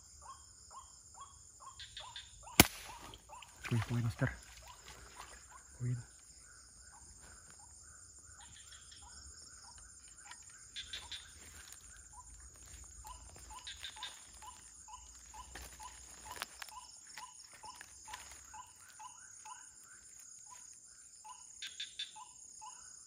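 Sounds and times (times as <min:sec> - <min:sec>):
night insects trilling: 0:00.0 - 0:23.0.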